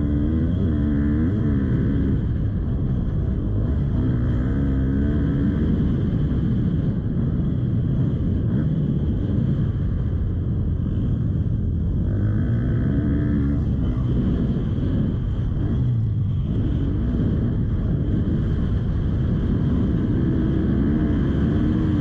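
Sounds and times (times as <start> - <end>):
motorbike engine revving: 0.0 - 10.1, 10.9 - 22.0.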